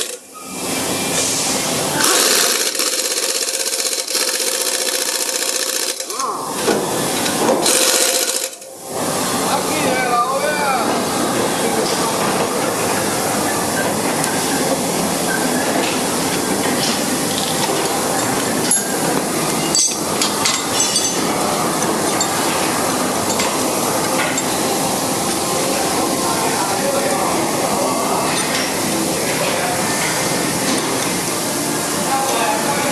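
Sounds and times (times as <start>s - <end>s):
workshop machine noise: 0.0s - 32.9s.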